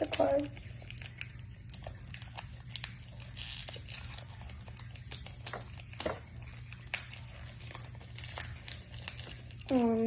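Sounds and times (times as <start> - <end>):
cards rustling: 0.0 - 10.0
foil wrapper crinkling: 0.0 - 10.0.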